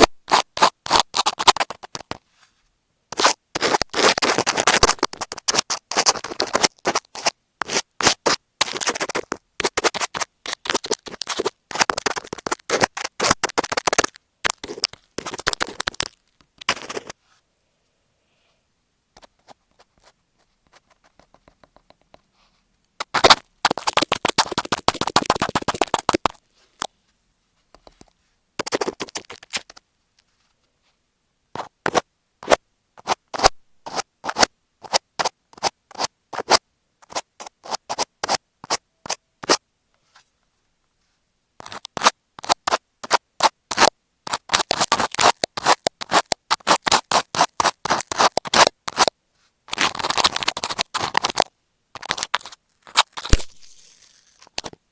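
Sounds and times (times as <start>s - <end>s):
scratching on microphone: 0.0s - 17.4s, 19.2s - 26.9s, 27.8s - 30.6s, 31.6s - 40.3s, 41.6s - 54.7s.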